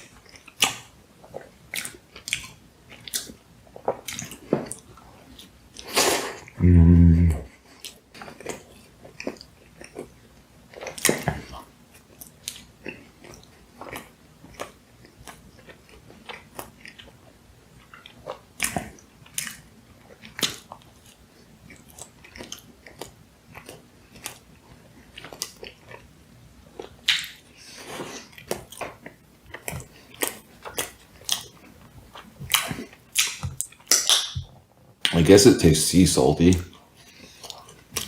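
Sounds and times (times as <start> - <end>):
person chewing donuts: 0.0 - 35.7, 36.4 - 38.0.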